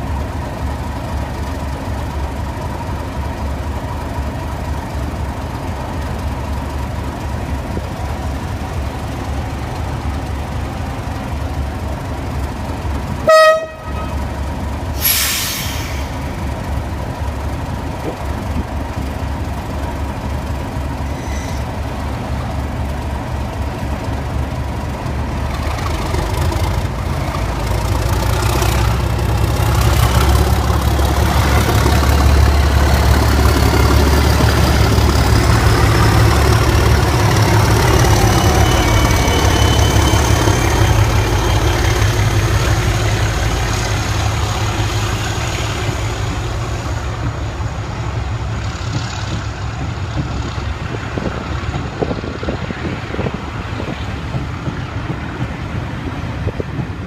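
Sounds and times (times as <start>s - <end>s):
diesel locomotive engine rumbling: 0.0s - 57.0s.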